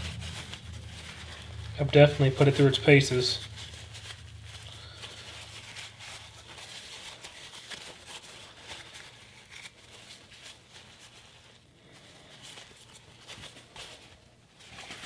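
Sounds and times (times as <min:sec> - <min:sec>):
rubbing and scratching: 0:00.0 - 0:15.0.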